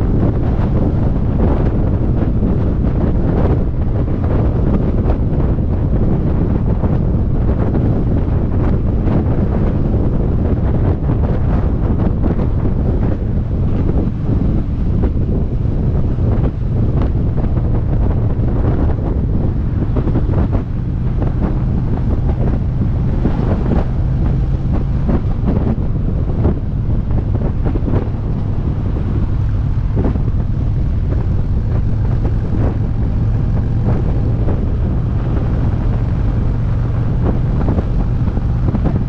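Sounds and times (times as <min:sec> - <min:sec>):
motorcycle engine hum: 0:00.0 - 0:39.0
wind buffeting microphone: 0:00.0 - 0:39.0.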